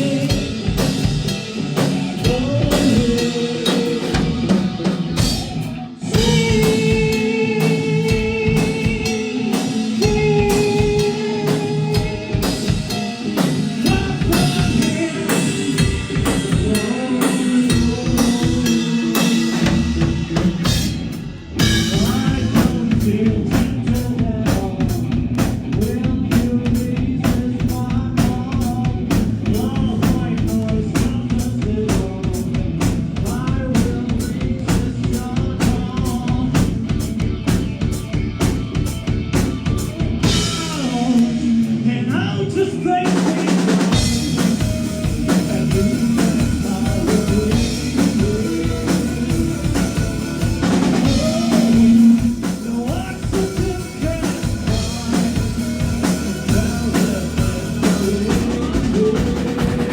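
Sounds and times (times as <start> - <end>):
drum kit beat: 0.0 - 41.8, 43.0 - 59.9
rock band playing live: 0.0 - 59.9.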